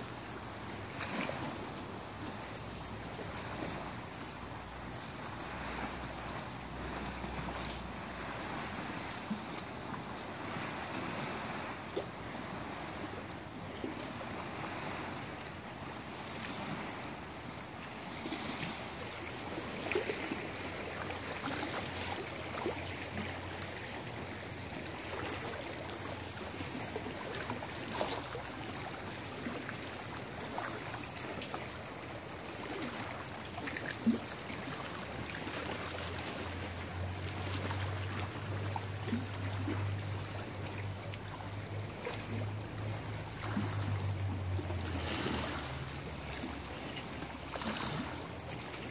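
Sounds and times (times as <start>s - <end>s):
water lapping against rocks: 0.0s - 48.9s.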